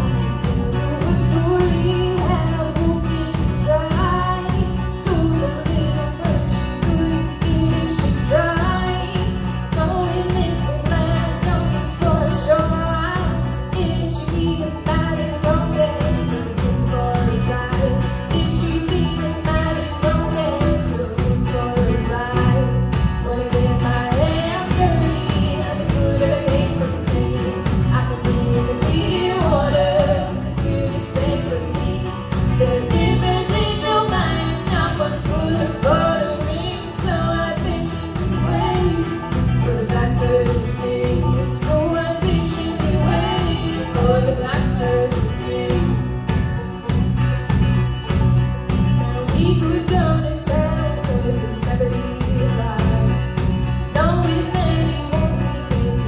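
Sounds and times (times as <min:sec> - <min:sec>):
live band playing instrumental: 0:00.0 - 0:56.0.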